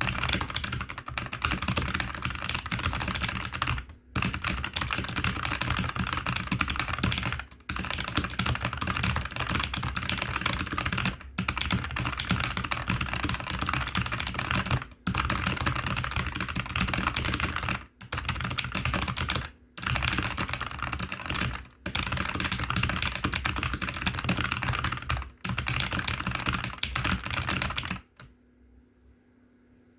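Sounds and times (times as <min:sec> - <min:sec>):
fast mechanical keyboard typing: 0:00.0 - 0:28.3.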